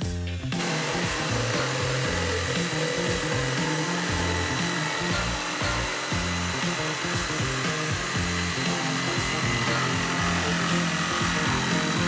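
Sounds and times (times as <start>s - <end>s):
background music with bass: 0.0s - 12.0s
jigsaw cutting plywood: 0.6s - 12.0s.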